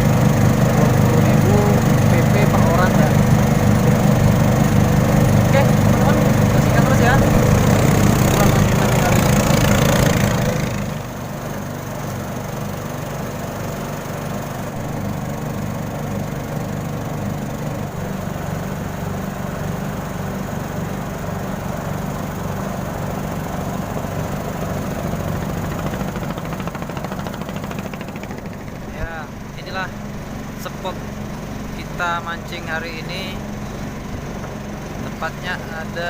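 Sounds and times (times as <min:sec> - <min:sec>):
small motorboat engine running: 0:00.0 - 0:36.0.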